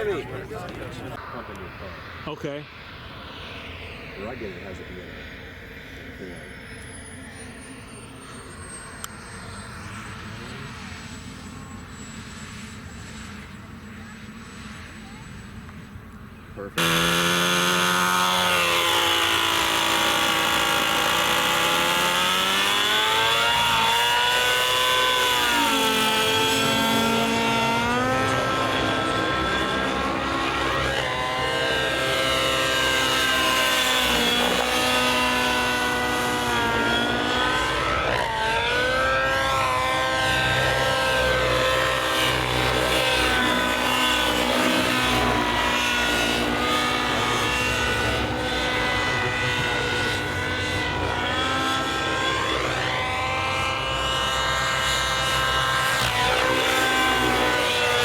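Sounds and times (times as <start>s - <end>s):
model airplane engine passing: 0.0s - 58.0s.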